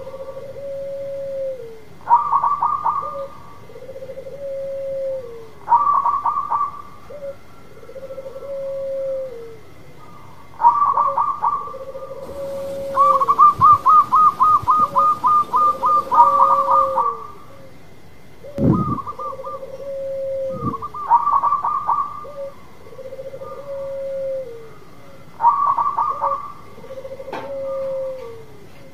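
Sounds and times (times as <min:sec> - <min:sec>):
dove cooing: 0:00.0 - 0:09.7, 0:10.6 - 0:17.8, 0:18.4 - 0:28.8.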